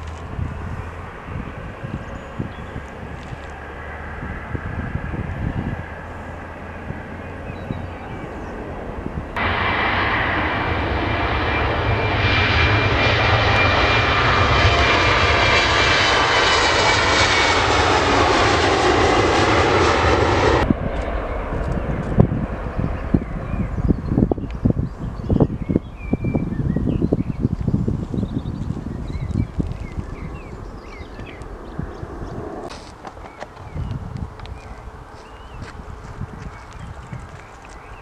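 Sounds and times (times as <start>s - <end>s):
high engine whine: 0.0s - 24.8s, 28.0s - 35.6s
airliner engines rumbling: 0.0s - 38.0s.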